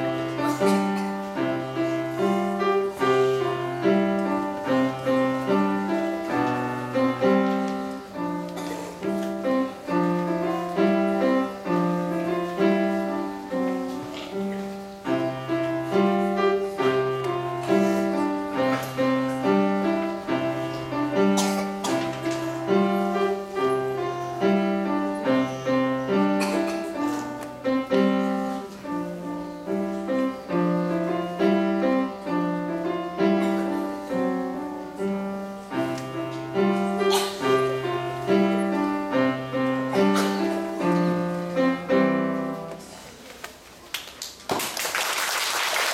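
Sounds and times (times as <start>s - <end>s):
solo piano playing: 0.0s - 42.9s.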